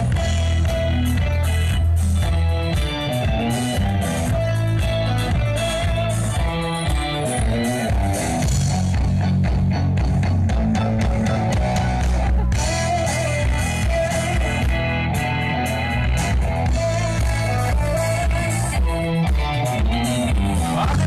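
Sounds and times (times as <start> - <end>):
live rock band through pa: 0.0 - 21.0.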